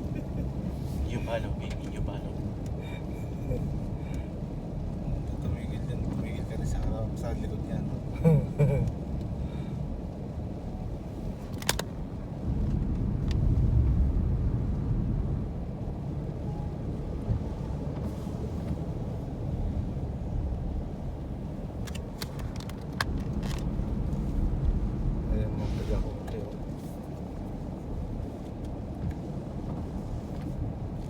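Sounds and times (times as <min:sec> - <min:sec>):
car engine rumble from inside: 0:00.0 - 0:31.0.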